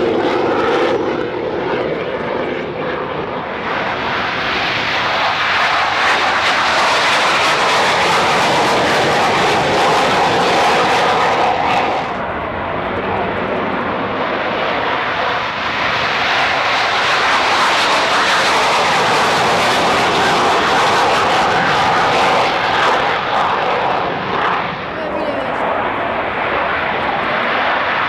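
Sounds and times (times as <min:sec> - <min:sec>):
jet engines roaring on takeoff: 0:00.0 - 0:28.0.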